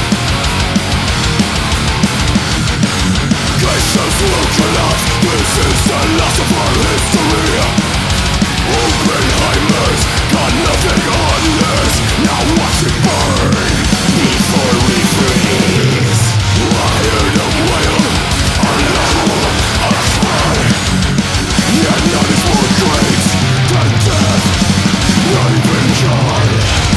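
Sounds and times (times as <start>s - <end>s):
distorted guitars: 0.0s - 26.9s
rapid dense drumming: 0.0s - 26.9s.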